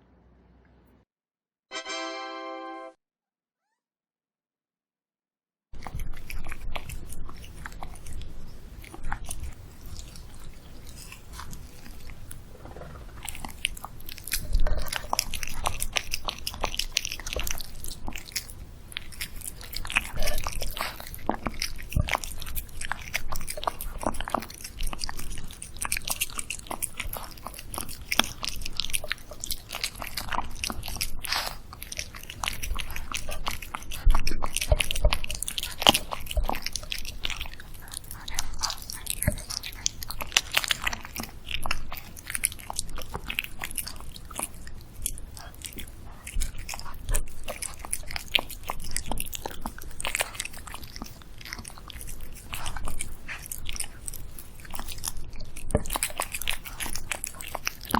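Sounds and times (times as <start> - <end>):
dog chewing food: 5.8 - 57.9.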